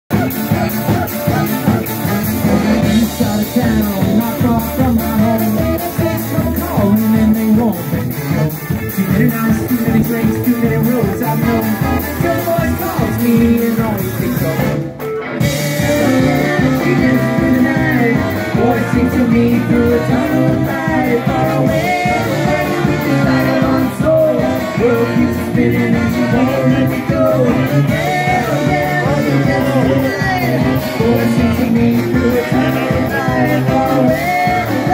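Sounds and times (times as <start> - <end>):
drum kit: 0.1 - 34.9
electric guitar: 0.1 - 34.9
saxophone: 0.1 - 34.9
sousaphone bass line: 0.1 - 34.9.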